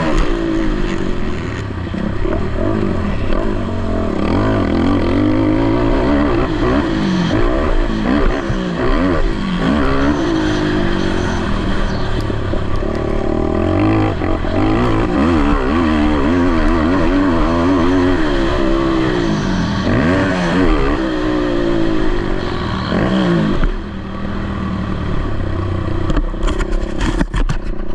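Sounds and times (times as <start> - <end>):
quad engines revving: 0.0 - 27.4.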